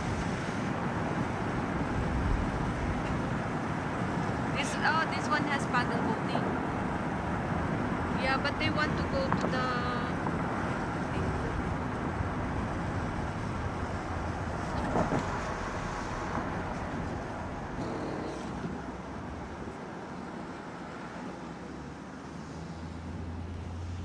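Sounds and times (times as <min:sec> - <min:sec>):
rush of travel noise: 0:00.0 - 0:24.0
vehicle engine hum: 0:00.0 - 0:24.0.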